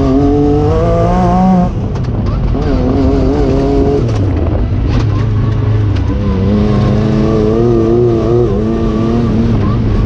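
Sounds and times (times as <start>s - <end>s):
engine running hard: 0.0s - 10.0s.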